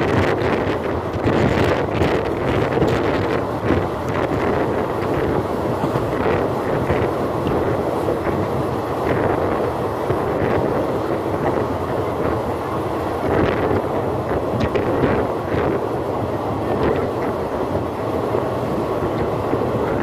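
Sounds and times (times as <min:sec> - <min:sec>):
train wheels rumbling on rail: 0:00.0 - 0:20.0
wind buffeting microphone: 0:00.0 - 0:20.0.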